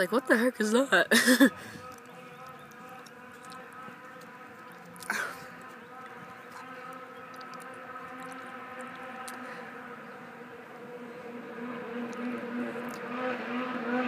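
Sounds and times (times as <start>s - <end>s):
snowmobile engine running: 0.7s - 14.0s.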